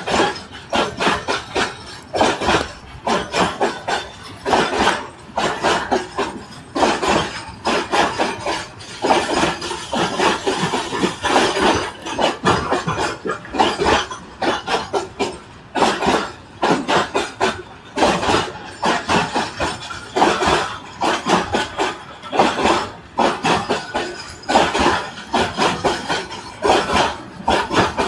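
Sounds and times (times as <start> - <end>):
train wheels clattering on track: 0.0 - 28.0.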